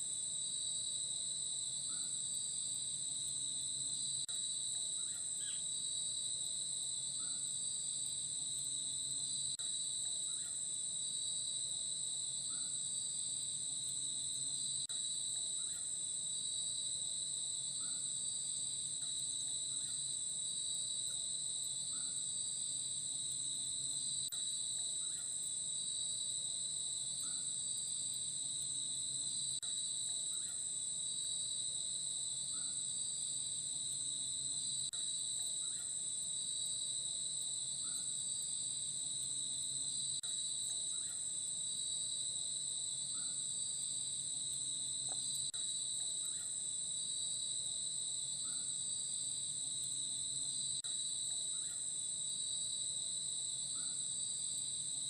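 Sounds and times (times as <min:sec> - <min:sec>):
pulsing insect chorus: 0:00.0 - 0:55.0.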